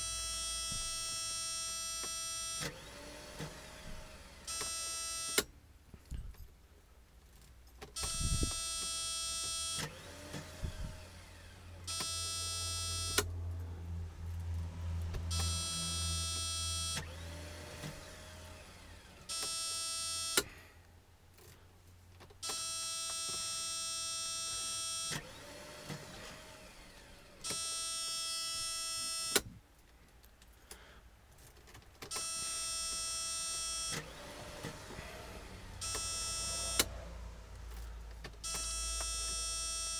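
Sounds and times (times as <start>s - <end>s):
car electric buzz: 0.0s - 5.5s, 8.0s - 13.6s, 14.3s - 20.6s, 22.4s - 29.5s, 32.0s - 39.9s.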